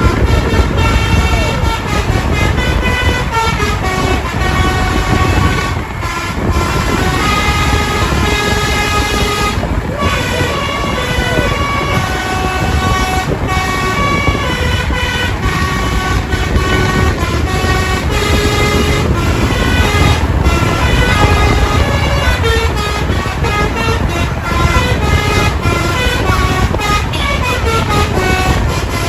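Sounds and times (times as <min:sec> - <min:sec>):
multi-tone air horns playing tune: 0:00.0 - 0:29.0
steady low rumble: 0:00.0 - 0:29.0.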